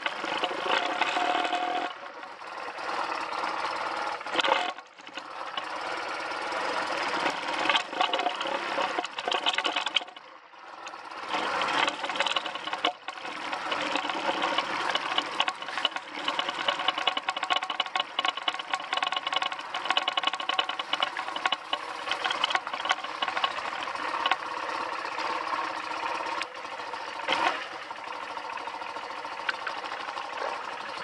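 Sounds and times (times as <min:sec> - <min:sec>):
motorcycle engine under varying throttle: 0:00.0 - 0:31.0.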